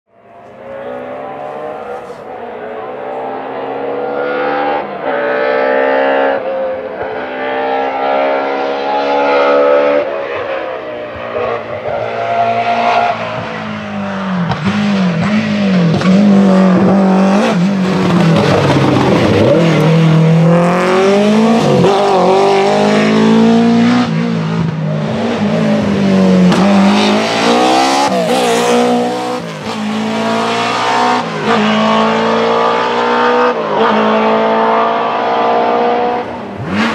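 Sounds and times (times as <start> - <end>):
rally car engines revving: 0.2 - 36.9.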